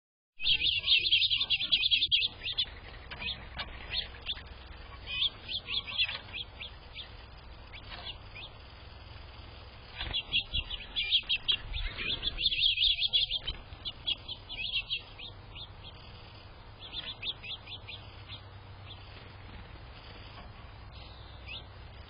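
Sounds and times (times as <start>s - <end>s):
low steady hum: 0.4s - 22.0s
small songbirds chirping: 0.4s - 22.0s.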